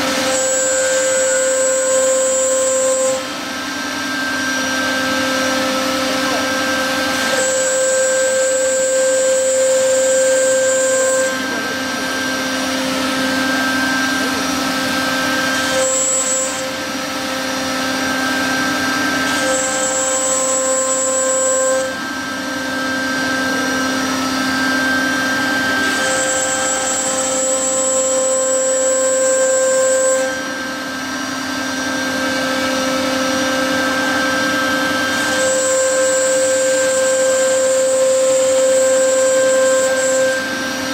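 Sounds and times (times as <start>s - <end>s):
cnc router whine: 0.0s - 40.9s
high-pitched machine tone: 0.0s - 40.9s.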